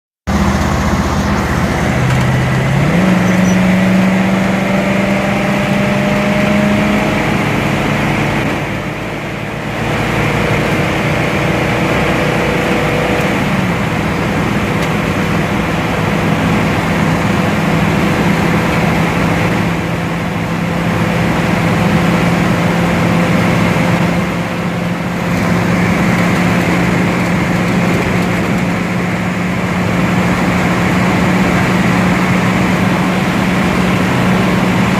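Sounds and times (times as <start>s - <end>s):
car engine at full throttle: 0.3s - 34.9s.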